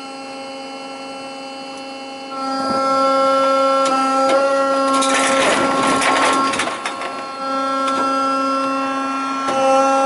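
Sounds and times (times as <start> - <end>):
hydraulic bin lifter whine: 0.0 - 10.0.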